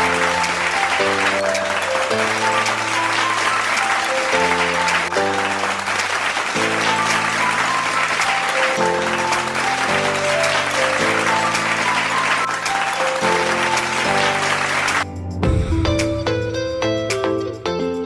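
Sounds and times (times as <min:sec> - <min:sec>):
audience applause: 0:00.0 - 0:15.1.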